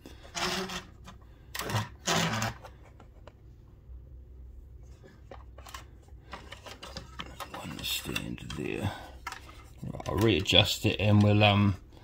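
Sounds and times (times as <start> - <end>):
plastic toy rustling: 0.2 - 3.3, 4.8 - 11.4.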